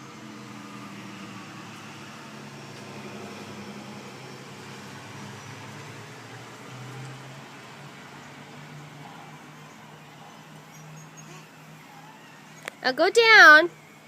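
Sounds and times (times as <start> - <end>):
vehicle motor humming: 0.0 - 14.0.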